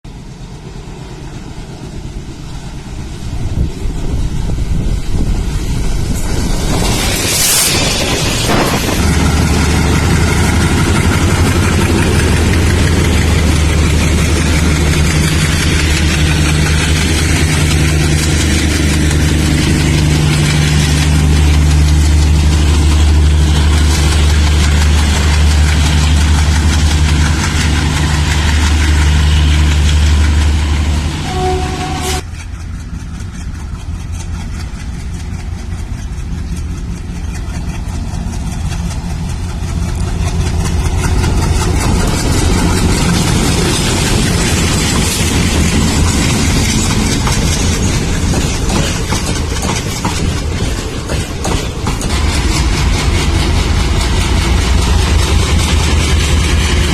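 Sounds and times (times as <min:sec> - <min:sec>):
diesel locomotive engine chugging: 0:00.1 - 0:56.9.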